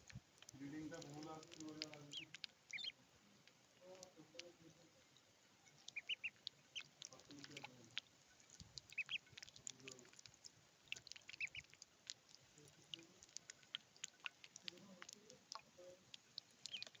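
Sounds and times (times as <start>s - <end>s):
ducklings peeping: 0.0s - 3.0s, 5.6s - 17.0s
duckling bills tapping water: 0.0s - 17.0s.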